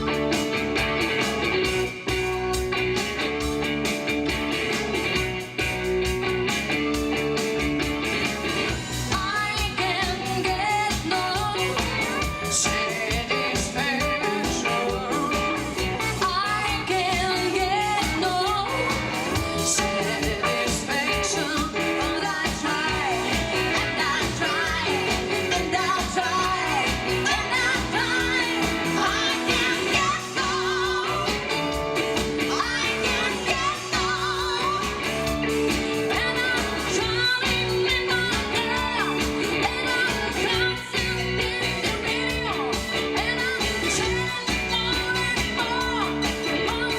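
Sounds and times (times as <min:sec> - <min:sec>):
live pop-rock band: 0:00.0 - 0:46.9
woman singing: 0:08.7 - 0:46.9.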